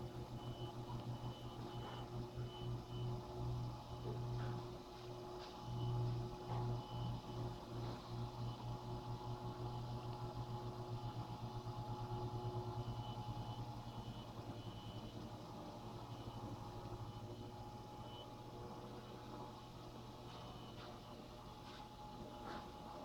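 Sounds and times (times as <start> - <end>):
robot vacuum cleaner running: 0.0 - 23.0.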